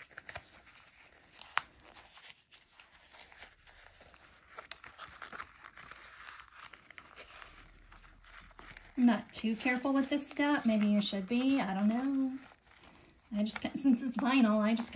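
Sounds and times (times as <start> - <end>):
vinyl pouch crinkling: 0.0 - 14.9.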